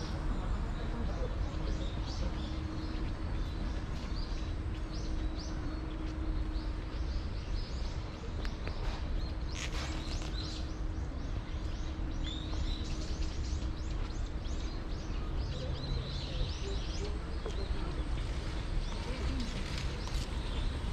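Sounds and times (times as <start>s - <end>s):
low city hum: 0.0s - 20.9s
small birds chirping: 0.0s - 20.9s.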